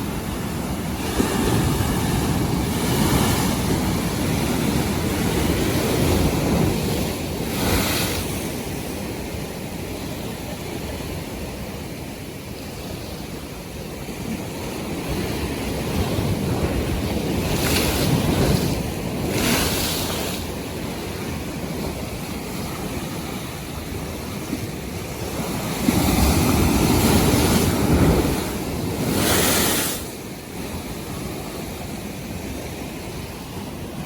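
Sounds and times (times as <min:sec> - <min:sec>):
waves breaking and washing: 0:00.0 - 0:34.0
wind on microphone: 0:00.0 - 0:34.0.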